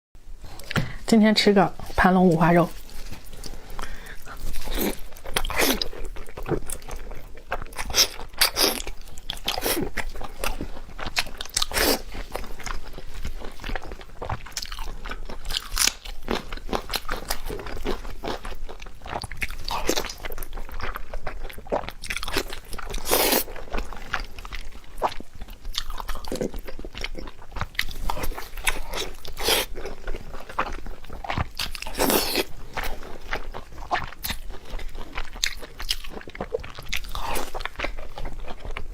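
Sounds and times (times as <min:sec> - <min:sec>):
crunchy bites and chewing: 0:02.8 - 0:38.9.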